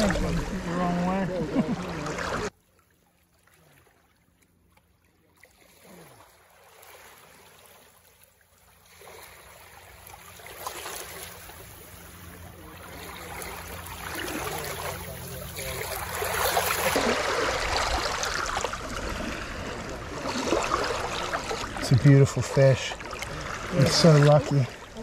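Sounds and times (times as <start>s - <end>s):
shallow water splashing and lapping: 0.0s - 25.0s.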